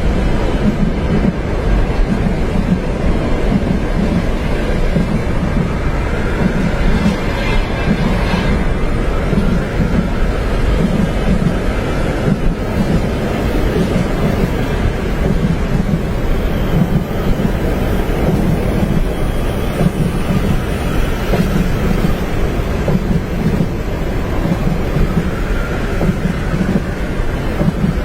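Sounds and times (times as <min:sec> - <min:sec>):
snowstorm wind rushing: 0:00.0 - 0:28.0
train rumbling on tracks: 0:00.0 - 0:28.0.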